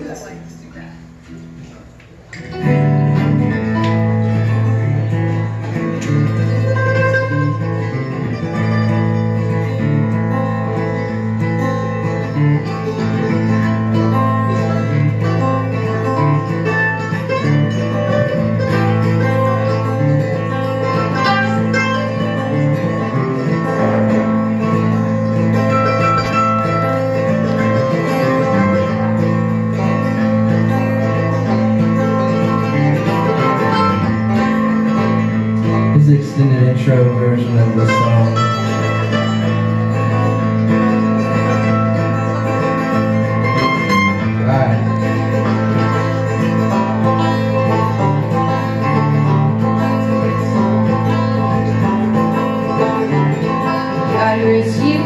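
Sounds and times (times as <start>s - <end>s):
acoustic string band playing: 0.0s - 55.0s.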